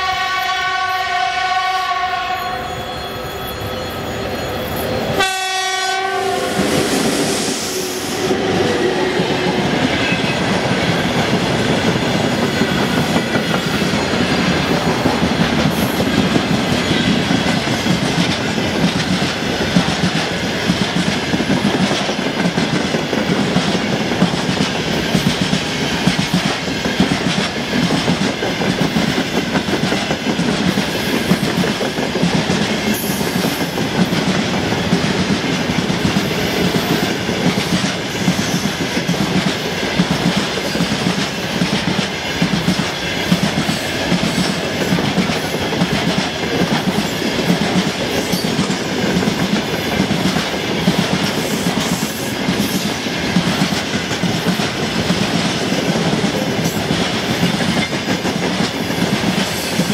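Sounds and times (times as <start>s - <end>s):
train wheels clattering over rail joints: 9.2s - 59.9s.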